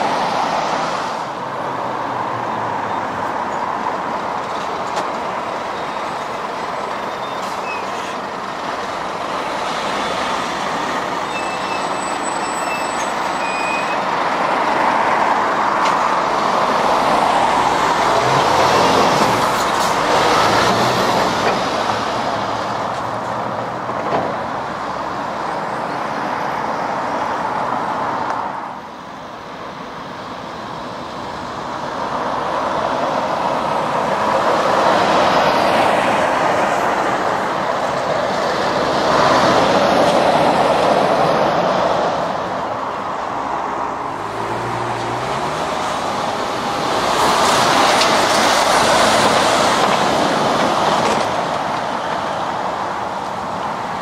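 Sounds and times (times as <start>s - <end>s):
lorries and traffic passing: 0.0s - 54.0s.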